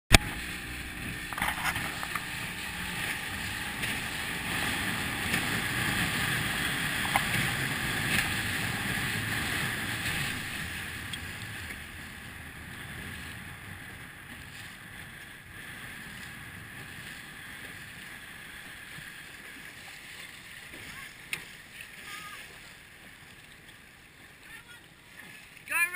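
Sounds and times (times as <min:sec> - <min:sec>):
water rushing along a hull: 0:00.1 - 0:25.9.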